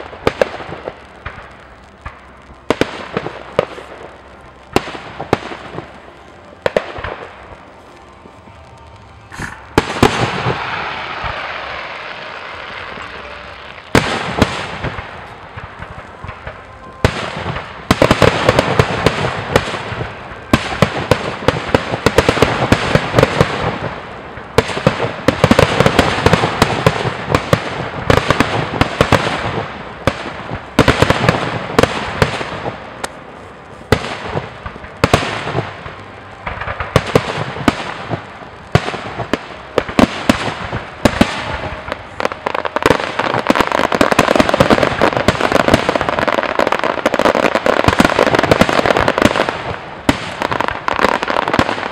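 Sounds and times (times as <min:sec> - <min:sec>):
firework crackle: 0:00.0 - 0:51.9.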